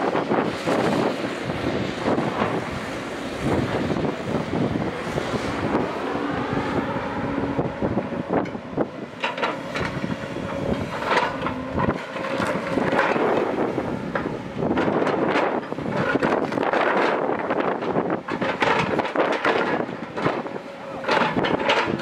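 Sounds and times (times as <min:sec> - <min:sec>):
excavator diesel engine under load: 0:00.0 - 0:22.0
wind buffeting microphone: 0:00.0 - 0:22.0.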